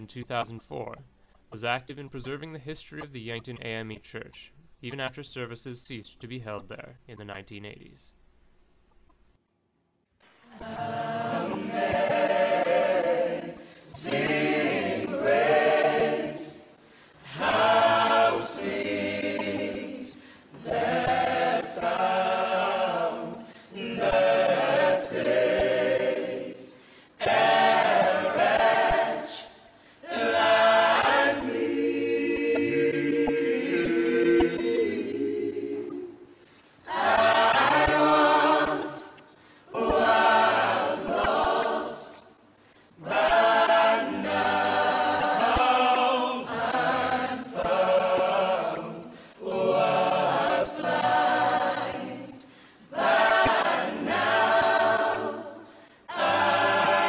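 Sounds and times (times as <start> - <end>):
choir singing a cappella: 10.4 - 42.4, 43.0 - 57.0.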